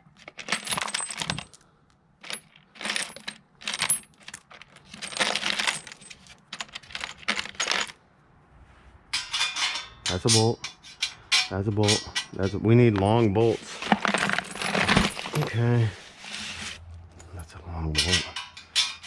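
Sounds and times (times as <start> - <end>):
metal bolts clinking and rattling: 0.2 - 1.6, 2.2 - 8.0, 9.2 - 12.8, 13.6 - 19.0.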